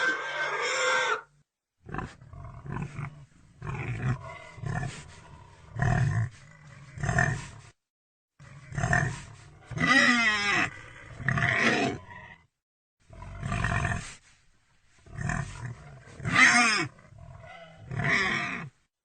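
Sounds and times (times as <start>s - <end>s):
pig grunting: 0.0s - 7.7s, 8.4s - 12.4s, 13.1s - 14.2s, 15.1s - 18.7s.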